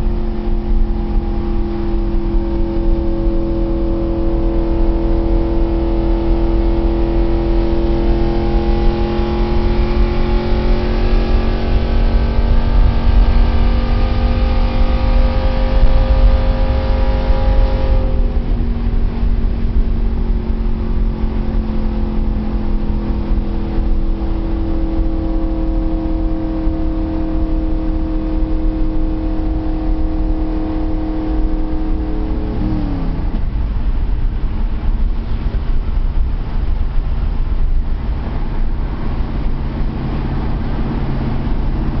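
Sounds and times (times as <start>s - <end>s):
car engine at high revs: 0.0s - 42.0s
road and wind noise: 0.0s - 42.0s.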